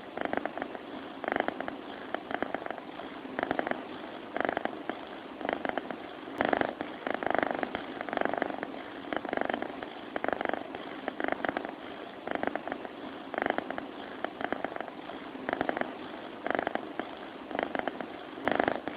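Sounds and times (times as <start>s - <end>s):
cat snoring: 0.0s - 18.9s.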